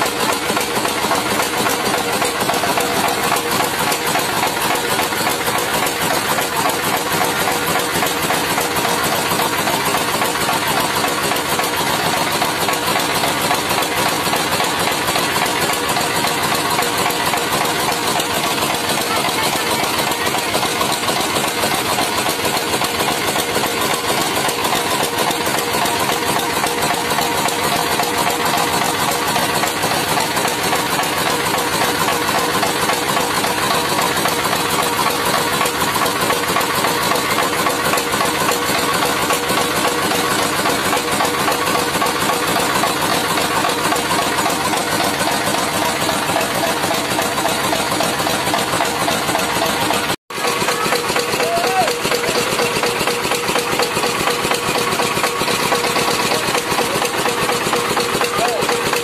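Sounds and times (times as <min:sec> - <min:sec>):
diesel engine knocking: 0:00.0 - 0:59.0
rice huller hulling: 0:00.0 - 0:59.0.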